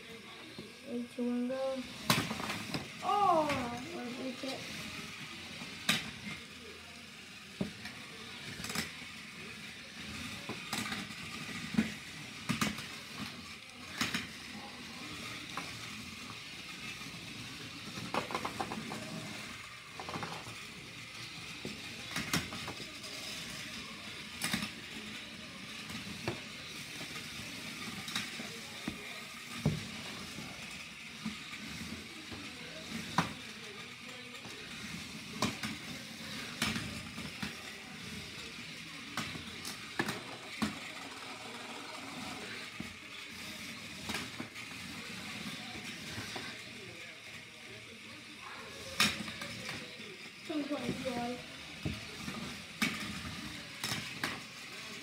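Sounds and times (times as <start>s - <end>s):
small electric motors buzzing: 0.0s - 55.0s.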